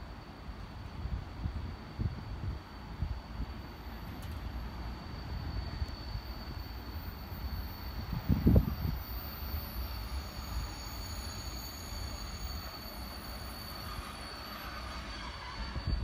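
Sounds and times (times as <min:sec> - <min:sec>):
train low rumble: 0:00.0 - 0:16.0
thin high whine: 0:00.9 - 0:16.0.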